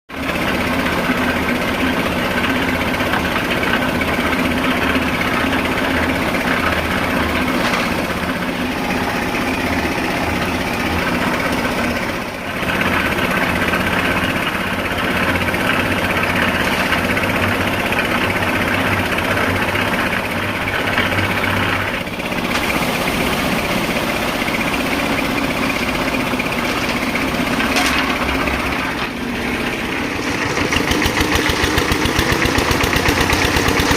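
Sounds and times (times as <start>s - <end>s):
construction hoist engine running: 0.2s - 33.9s.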